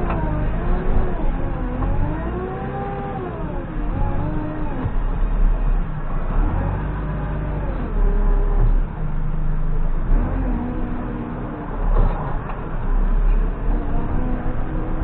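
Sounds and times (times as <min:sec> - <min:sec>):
backhoe diesel engine rumbling: 0:00.0 - 0:15.0.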